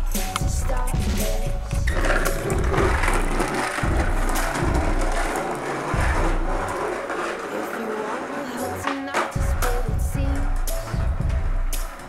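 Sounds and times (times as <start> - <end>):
skateboard wheels rolling on asphalt: 0.9 - 12.0.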